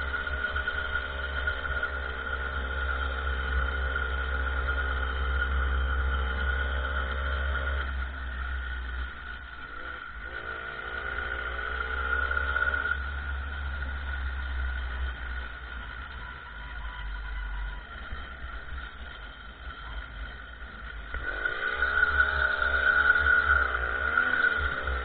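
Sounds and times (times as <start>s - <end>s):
small motorcycle engine: 0.0s - 25.0s
steady high whine: 0.0s - 25.0s.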